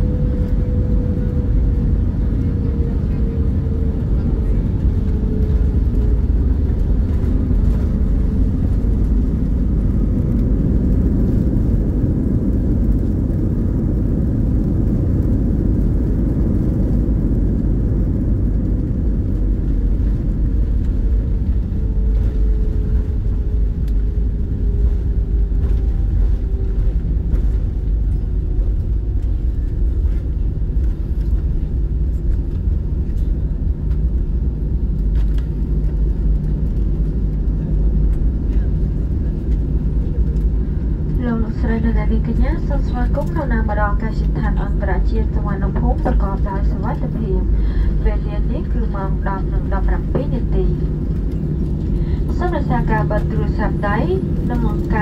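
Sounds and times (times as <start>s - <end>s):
wheels and engines rumbling: 0.0s - 55.0s.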